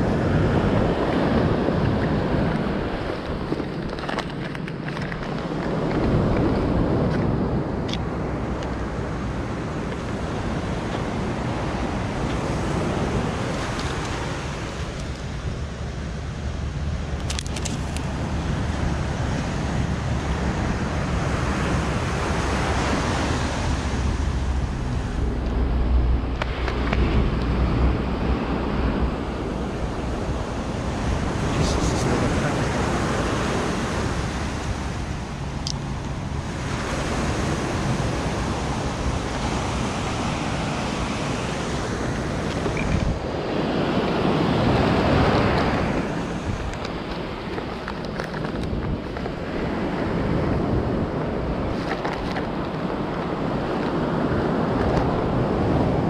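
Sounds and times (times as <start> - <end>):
sea waves breaking on shore: 0.0 - 56.0
wind rumbling on microphone: 0.0 - 56.0.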